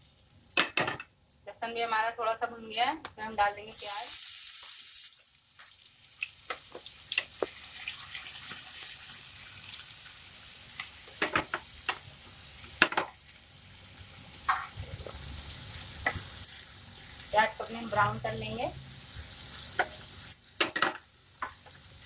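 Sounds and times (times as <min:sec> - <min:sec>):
onion sizzling in hot oil: 0:03.2 - 0:22.0.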